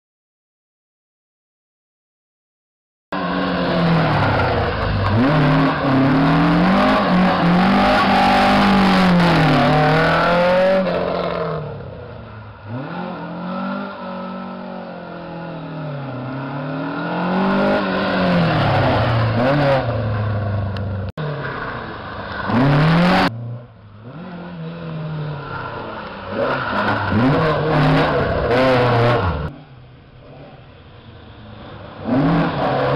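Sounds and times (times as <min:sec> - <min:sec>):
rally car engine revving: 0:03.2 - 0:32.9.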